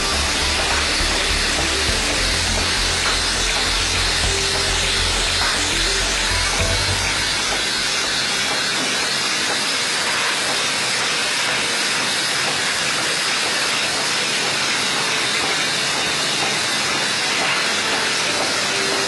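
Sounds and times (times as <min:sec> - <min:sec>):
machine hiss: 0:00.0 - 0:19.0.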